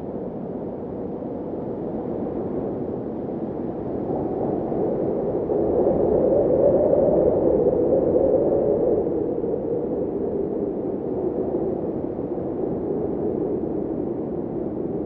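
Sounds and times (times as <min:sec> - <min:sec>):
wind blowing in a low rush: 0:00.0 - 0:15.0.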